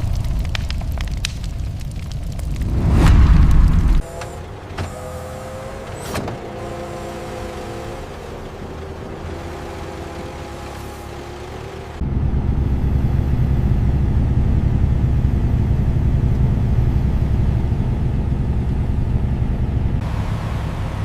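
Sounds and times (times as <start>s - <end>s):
deep machinery rumble: 0.0s - 21.0s.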